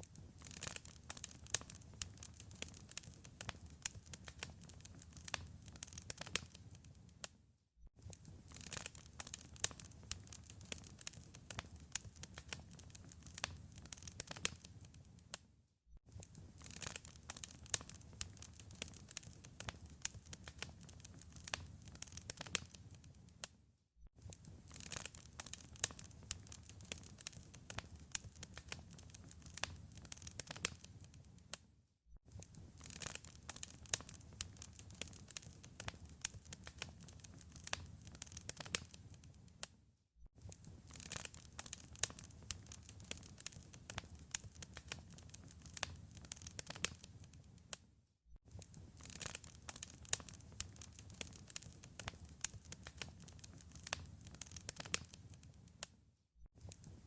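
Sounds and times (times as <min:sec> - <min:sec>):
wood fire crackling and popping: 0:00.0 - 0:07.3, 0:08.0 - 0:15.4, 0:16.1 - 0:23.5, 0:24.2 - 0:31.6, 0:32.3 - 0:39.7, 0:40.4 - 0:47.8, 0:48.5 - 0:55.9, 0:56.6 - 0:57.0.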